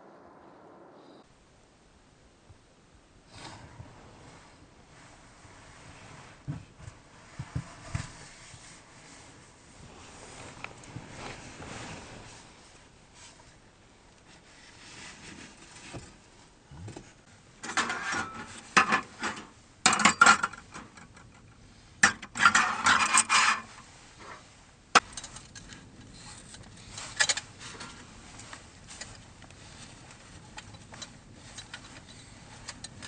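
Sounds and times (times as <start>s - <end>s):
camping gear scraping and rubbing: 3.3s - 19.6s, 21.6s - 33.0s.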